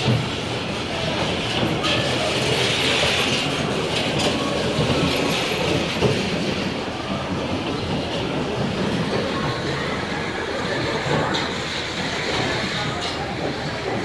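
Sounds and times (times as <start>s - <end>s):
bumper cars rolling rumble: 0.0s - 14.0s.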